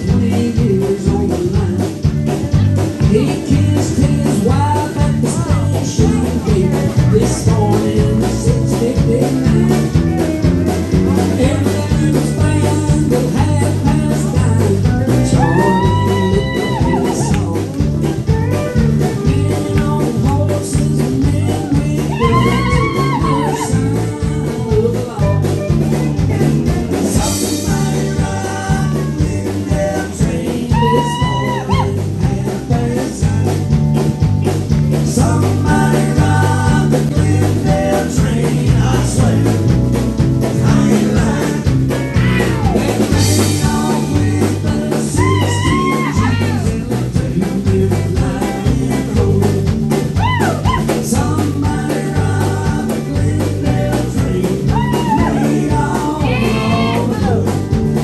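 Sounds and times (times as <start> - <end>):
person singing: 0.0 - 33.8, 34.9 - 58.0
live band playing upbeat song: 0.0 - 58.0.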